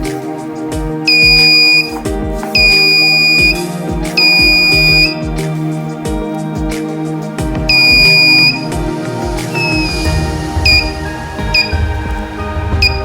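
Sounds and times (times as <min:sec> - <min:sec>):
background music with steady beat: 0:00.0 - 0:13.0.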